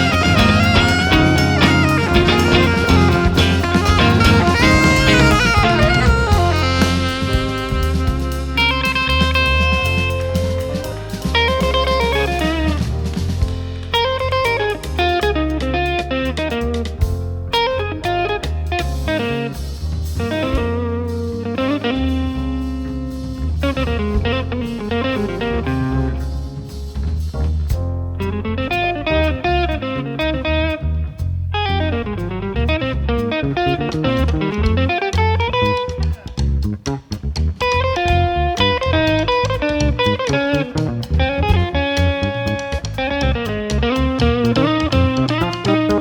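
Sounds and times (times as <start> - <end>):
electric guitar: 0.0 - 46.0
small jazz band playing: 0.0 - 46.0.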